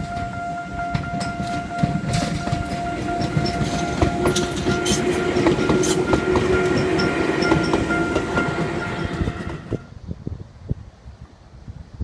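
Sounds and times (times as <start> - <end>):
train wheels clacking on rails: 0.0 - 9.8
railroad crossing bell ringing: 0.0 - 9.9.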